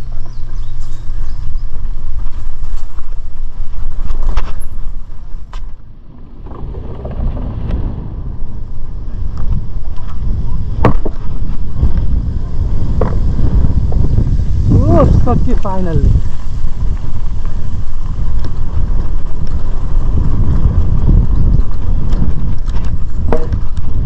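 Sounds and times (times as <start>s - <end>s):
bike knocks and rattles: 0.0s - 12.2s, 12.8s - 14.2s, 16.2s - 24.0s
bike tyre rumble on dirt: 0.0s - 24.0s
wind buffeting microphone: 0.0s - 24.0s.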